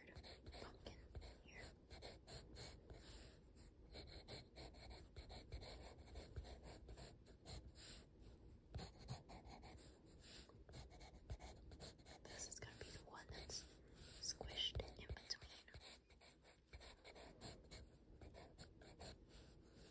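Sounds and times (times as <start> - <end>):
pencil scratching on paper: 0.0 - 19.9.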